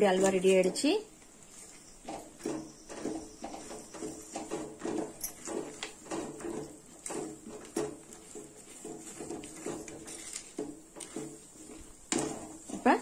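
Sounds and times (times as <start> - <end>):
spatula slapping and scraping: 0.0 - 13.0.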